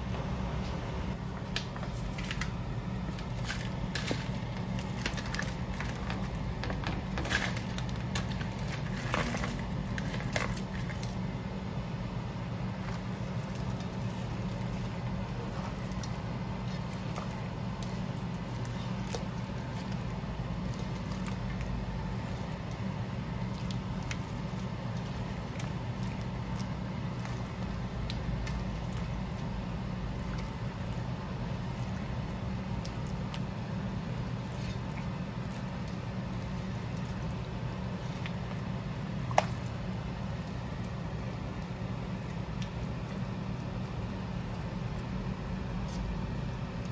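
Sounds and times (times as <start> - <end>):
steady low hum: 0.0 - 46.9
food simmering with pops: 1.3 - 46.9.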